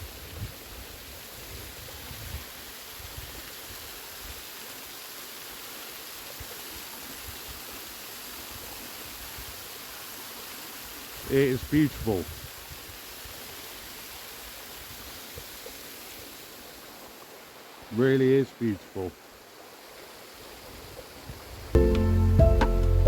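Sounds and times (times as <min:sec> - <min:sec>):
small waterfall rushing: 0:00.0 - 0:21.8.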